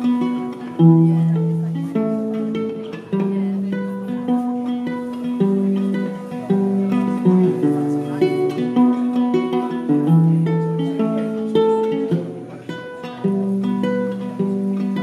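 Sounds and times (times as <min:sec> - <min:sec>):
acoustic guitar plucked melody: 0:00.0 - 0:15.0.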